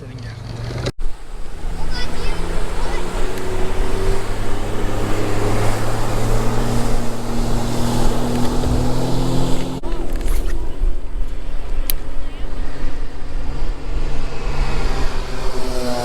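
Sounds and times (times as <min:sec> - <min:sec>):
boat motor humming: 0:00.7 - 0:16.0
heavy wind: 0:00.9 - 0:16.0
water noise: 0:00.9 - 0:16.0.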